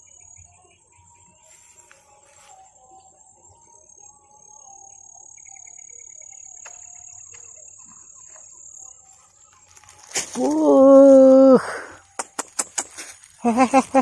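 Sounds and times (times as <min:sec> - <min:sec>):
insect high-pitched trill: 0:00.0 - 0:14.0
lower pulsed insect call: 0:00.0 - 0:14.0.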